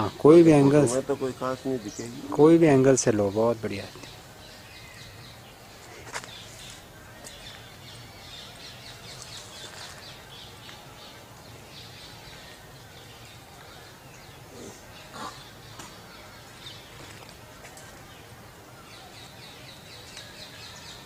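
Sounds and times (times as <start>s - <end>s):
outdoor background hiss: 0.0s - 21.0s
small birds chirping: 0.0s - 21.0s.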